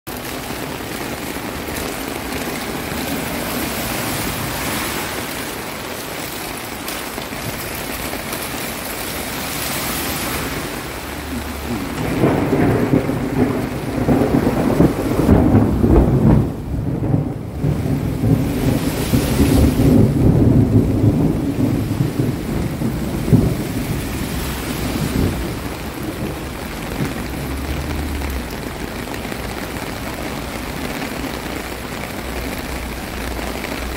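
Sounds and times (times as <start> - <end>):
heavy rain pouring: 0.1 - 33.9
thunder rumbling: 0.1 - 33.9.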